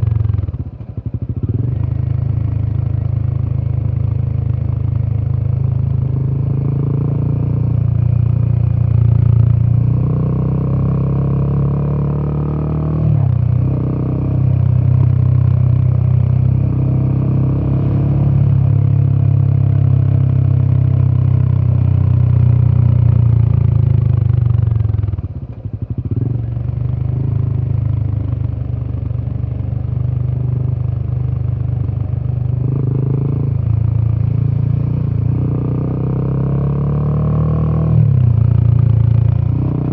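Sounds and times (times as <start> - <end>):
motorcycle engine deep exhaust note: 0.0 - 39.9.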